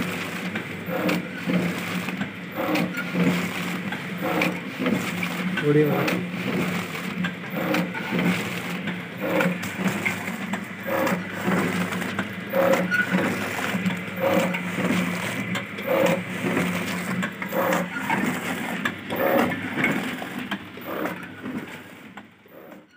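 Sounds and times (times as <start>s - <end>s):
packing machine motor hum: 0.0s - 22.9s.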